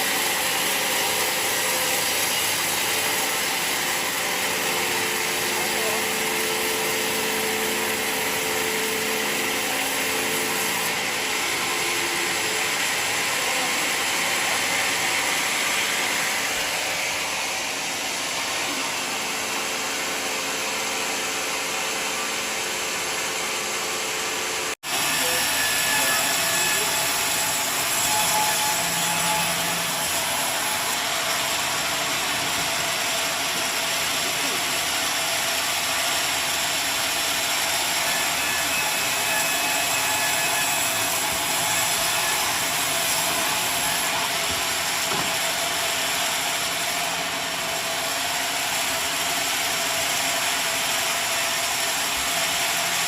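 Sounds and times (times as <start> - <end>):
sawmill sawing a log: 0.0 - 53.0.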